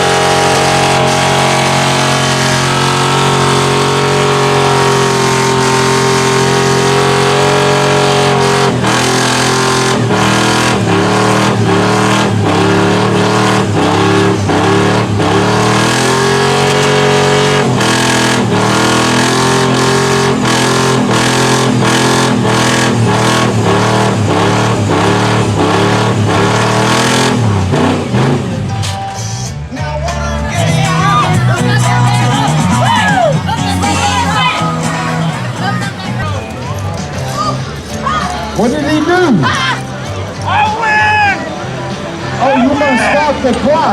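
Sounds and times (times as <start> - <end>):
truck engine revving hard: 0.0 - 29.7, 30.4 - 40.5.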